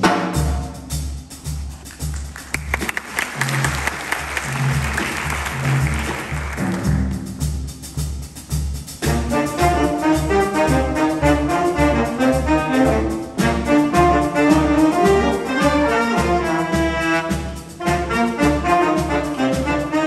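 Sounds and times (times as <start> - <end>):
jazz big band horns: 0.0 - 20.0
steady low beat: 0.0 - 20.0.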